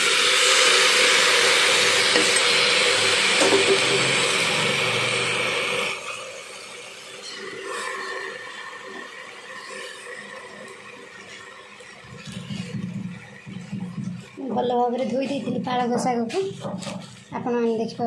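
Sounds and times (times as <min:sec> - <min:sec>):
spinach sizzling in hot oil: 0:00.0 - 0:15.6.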